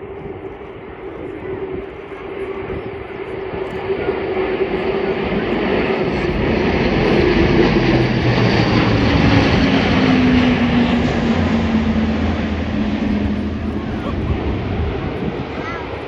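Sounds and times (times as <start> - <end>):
turboprop aircraft flying past low: 0.0 - 16.0.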